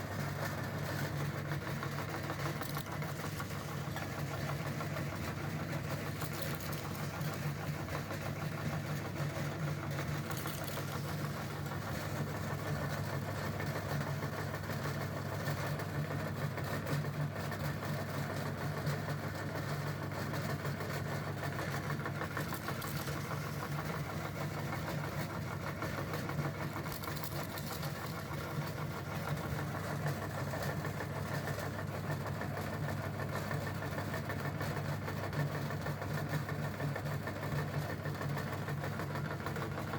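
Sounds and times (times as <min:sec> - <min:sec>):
meat grinder motor hum: 0:00.0 - 0:39.9.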